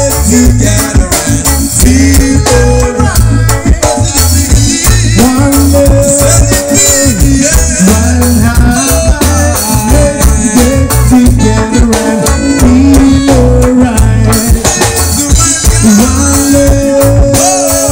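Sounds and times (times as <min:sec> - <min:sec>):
drum kit: 0:00.0 - 0:17.9
electric guitar: 0:00.0 - 0:17.9
live band playing: 0:00.0 - 0:17.9.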